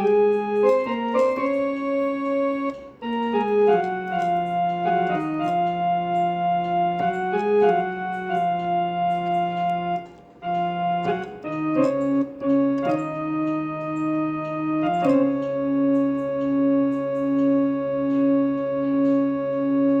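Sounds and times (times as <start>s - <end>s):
electronic keyboard harmonium melody: 0.0s - 20.0s.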